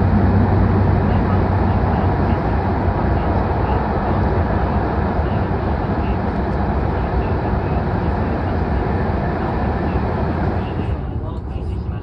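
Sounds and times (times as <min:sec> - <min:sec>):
train rumbling through tunnel: 0:00.0 - 0:12.0.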